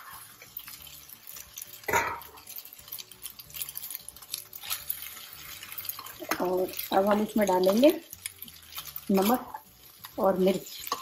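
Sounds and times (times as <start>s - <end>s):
metal spoon scraping a pan: 0.0s - 11.0s.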